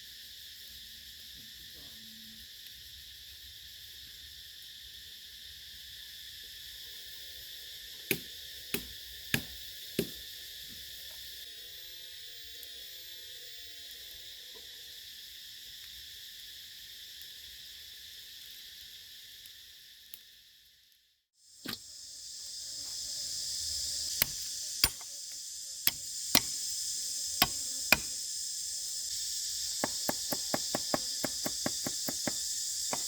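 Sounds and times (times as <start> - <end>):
insects chorus: 0.0 - 33.0.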